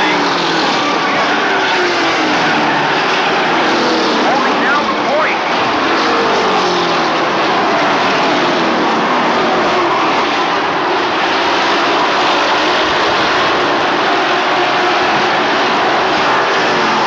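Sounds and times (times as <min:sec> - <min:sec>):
racing truck engines: 0:00.0 - 0:17.0.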